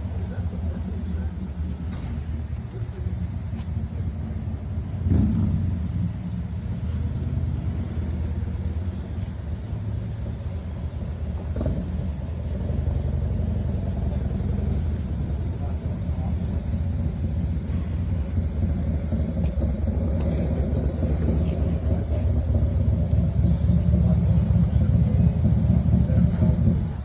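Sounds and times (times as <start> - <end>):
van engine idling: 0.0 - 27.0.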